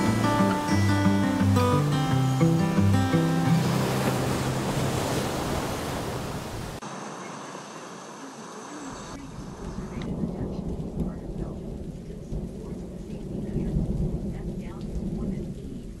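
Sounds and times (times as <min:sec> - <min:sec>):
thunder rumbling: 0:00.0 - 0:06.8, 0:09.0 - 0:16.0
surf washing in: 0:00.0 - 0:15.3
rain: 0:00.0 - 0:16.0.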